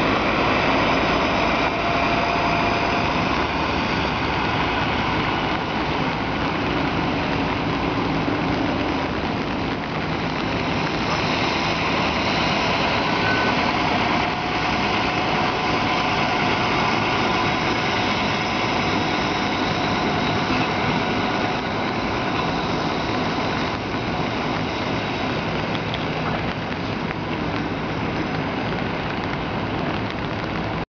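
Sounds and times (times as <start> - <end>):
diesel engine running: 0.0 - 30.8.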